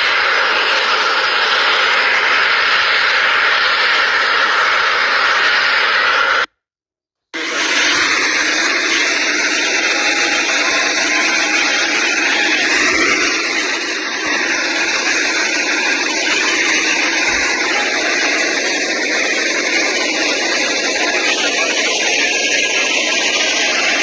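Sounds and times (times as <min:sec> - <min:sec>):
jet engine rushing hiss: 0:00.0 - 0:06.5, 0:07.4 - 0:24.0.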